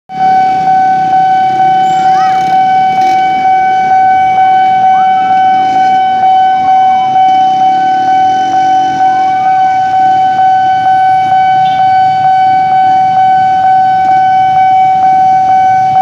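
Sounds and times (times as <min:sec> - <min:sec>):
level crossing warning bell: 0:00.1 - 0:16.0
motorbike traffic rumbling: 0:00.1 - 0:16.0.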